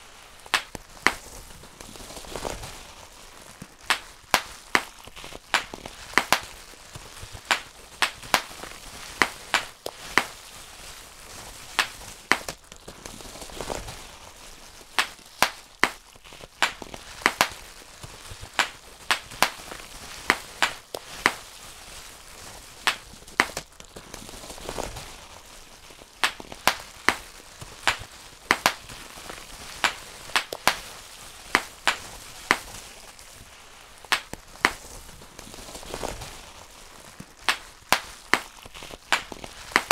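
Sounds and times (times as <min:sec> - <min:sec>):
bubble wrap popping: 0:00.0 - 0:39.9
plastic sheet rustling: 0:00.0 - 0:39.9.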